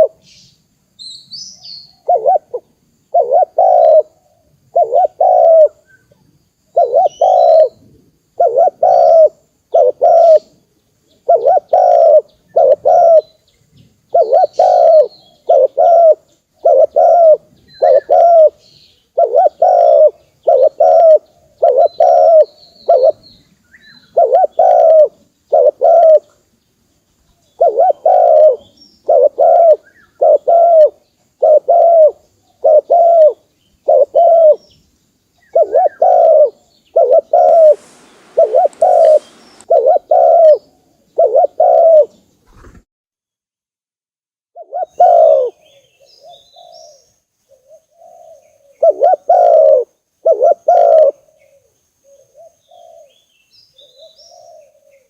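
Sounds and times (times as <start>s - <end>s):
dove cooing: 0.0s - 0.2s, 1.9s - 5.8s, 6.7s - 10.5s, 11.2s - 13.4s, 14.1s - 18.6s, 19.2s - 23.2s, 24.0s - 26.4s, 27.5s - 34.6s, 35.4s - 42.7s, 44.6s - 53.2s, 53.8s - 55.0s
small birds chirping: 0.0s - 42.8s, 44.6s - 55.0s.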